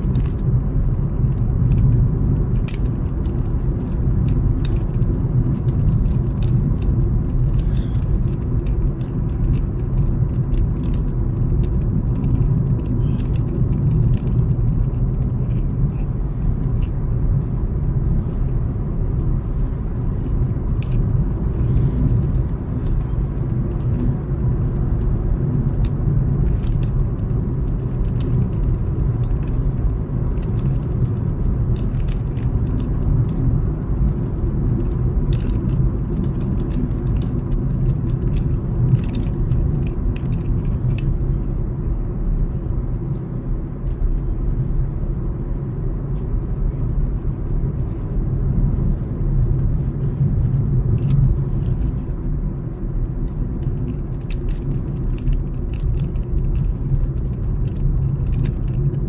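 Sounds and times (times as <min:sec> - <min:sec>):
car engine and tyre rumble: 0:00.0 - 0:59.0
light rattling ticks: 0:00.0 - 0:59.0.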